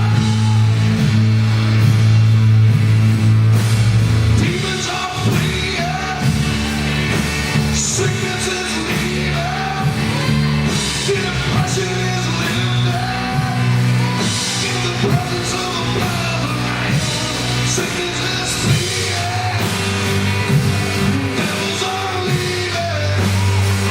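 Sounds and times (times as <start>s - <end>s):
person singing: 0.0s - 1.3s, 4.4s - 23.9s
drum kit with cymbal crashes: 0.0s - 23.9s.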